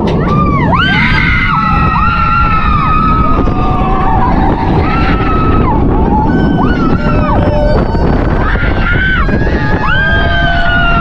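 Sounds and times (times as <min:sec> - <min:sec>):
wind rush on microphone: 0:00.0 - 0:11.0
riders screaming: 0:00.2 - 0:11.0.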